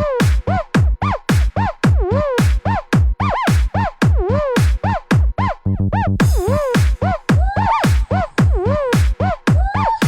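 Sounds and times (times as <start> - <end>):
fast heavy kick drum: 0.0 - 5.4, 6.2 - 9.9.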